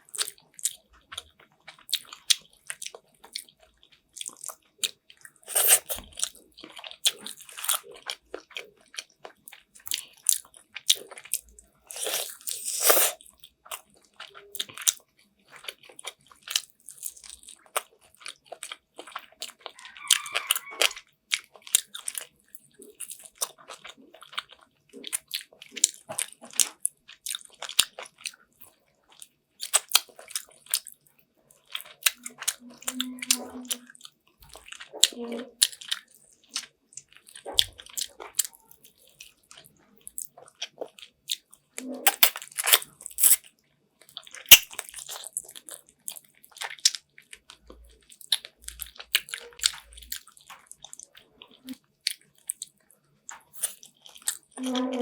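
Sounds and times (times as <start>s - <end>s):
biting and chewing food: 0.0s - 55.0s.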